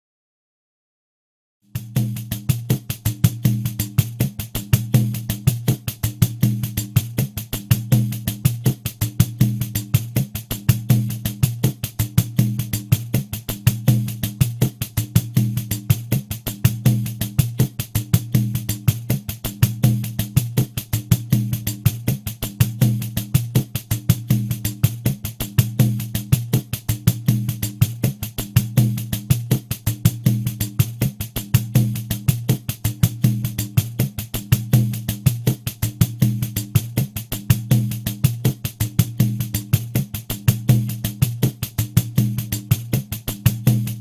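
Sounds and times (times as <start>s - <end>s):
pandeiro groove with jingles: 1.8s - 44.0s.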